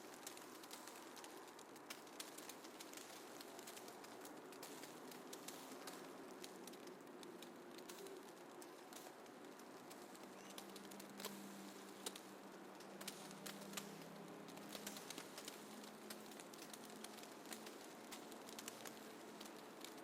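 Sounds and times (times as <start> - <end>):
light ticks and crackles: 0.0 - 20.0
soft steady hiss: 0.0 - 20.0.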